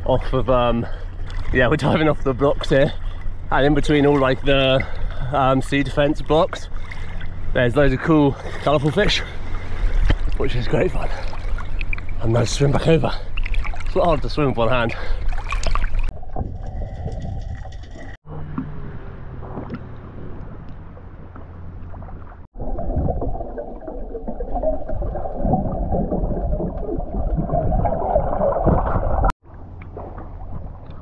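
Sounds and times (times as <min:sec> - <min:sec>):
water sloshing and bubbling: 0:00.0 - 0:31.0.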